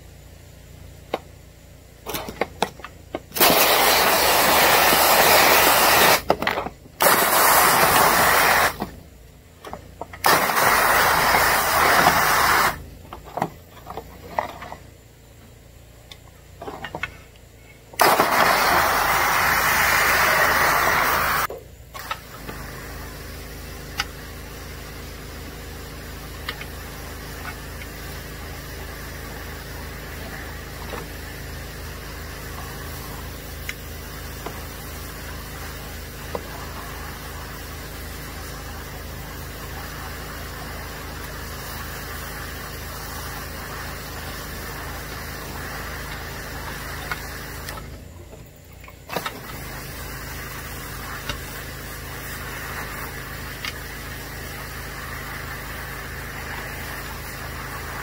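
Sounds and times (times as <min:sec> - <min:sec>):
pressure washer engine running: 0:02.0 - 0:06.4, 0:07.0 - 0:09.0, 0:09.9 - 0:14.7, 0:17.9 - 0:58.0.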